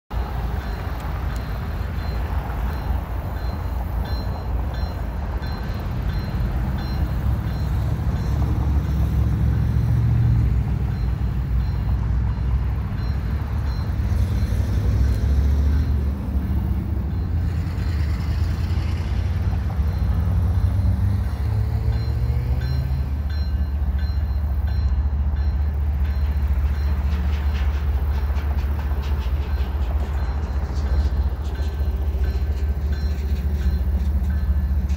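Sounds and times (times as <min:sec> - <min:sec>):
distant diesel locomotives: 0:00.1 - 0:34.9
road traffic rumble: 0:00.1 - 0:34.9.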